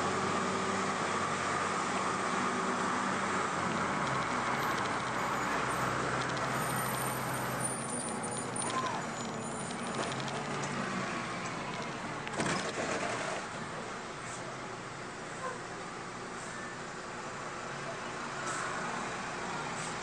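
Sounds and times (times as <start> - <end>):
diesel bus engine running: 0.0 - 20.0
road and tyre noise: 0.0 - 20.0.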